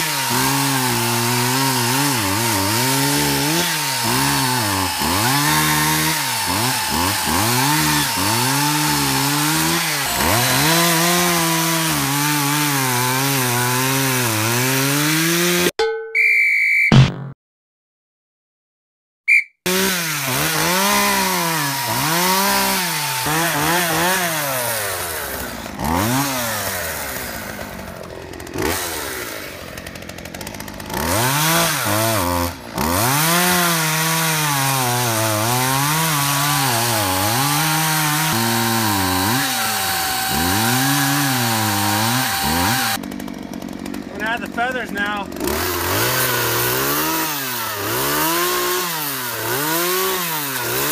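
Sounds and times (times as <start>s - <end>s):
chainsaws cutting logs: 0.0s - 15.8s, 19.6s - 50.9s.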